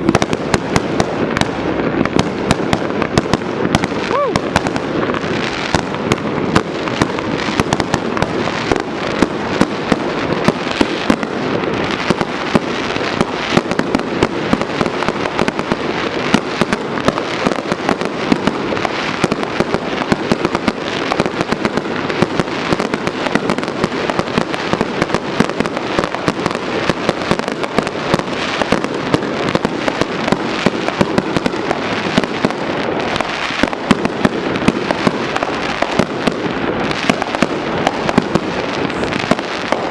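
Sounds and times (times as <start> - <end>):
fireworks cracking and popping: 0.0 - 39.9.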